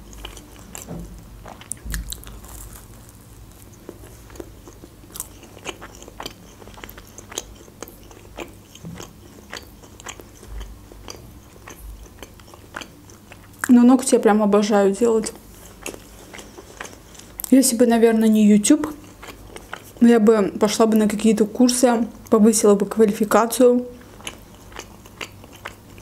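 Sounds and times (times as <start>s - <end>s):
close chewing of soft doughnut: 0.0s - 14.3s, 15.2s - 17.8s, 18.6s - 22.4s, 23.8s - 26.0s.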